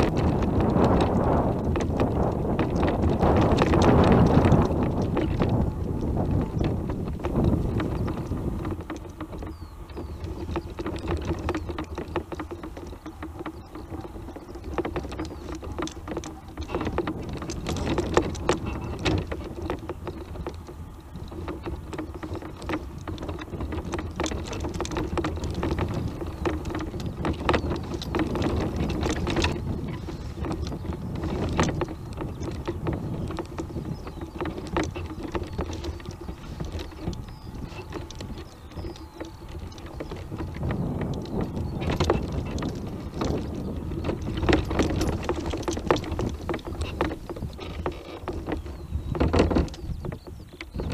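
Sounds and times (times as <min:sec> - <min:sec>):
scooter rattling over bumps: 0:00.0 - 0:50.9.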